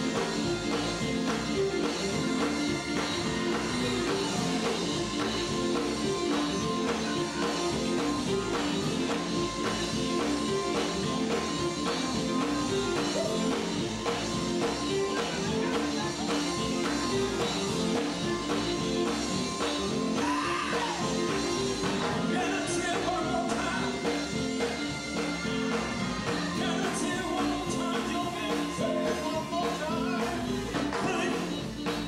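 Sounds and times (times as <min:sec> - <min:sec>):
electric guitars over beat: 0:00.0 - 0:32.0
person singing: 0:00.0 - 0:32.0.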